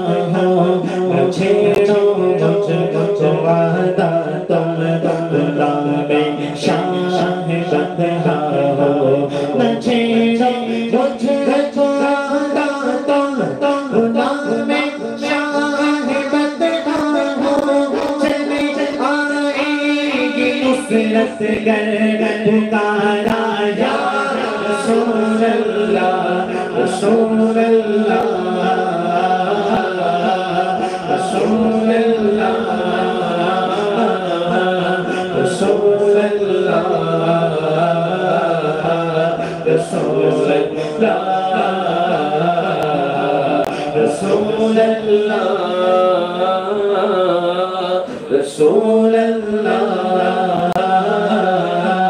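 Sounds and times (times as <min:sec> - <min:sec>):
men singing devotional song: 0:00.0 - 0:52.0.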